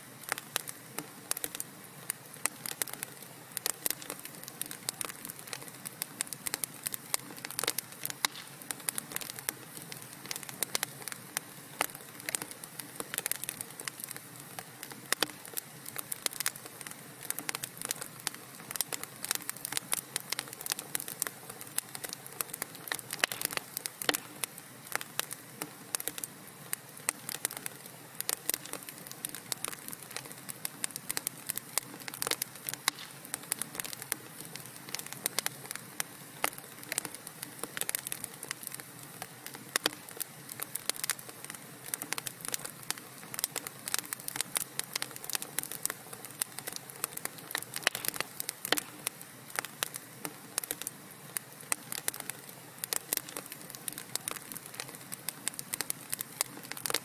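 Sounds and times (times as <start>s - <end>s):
soft fire hiss: 0.0s - 57.0s
wood fire crackling: 0.0s - 57.0s.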